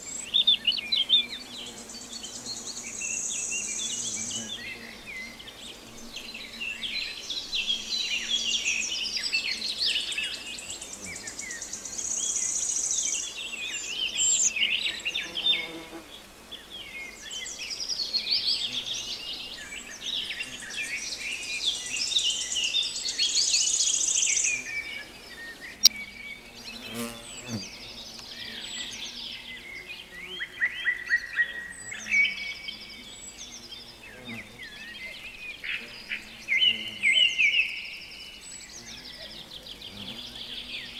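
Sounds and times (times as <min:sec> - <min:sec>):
high insect buzz: 0:00.0 - 0:40.9
songbirds chirping and trilling: 0:00.0 - 0:40.9
fly buzzing past: 0:00.1 - 0:37.5, 0:38.7 - 0:40.9.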